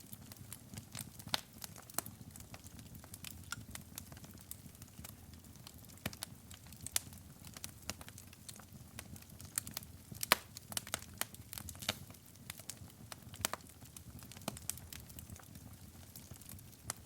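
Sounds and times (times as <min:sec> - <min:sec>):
wood fire crackling: 0:00.0 - 0:17.0
low rumble of flames: 0:00.1 - 0:17.0.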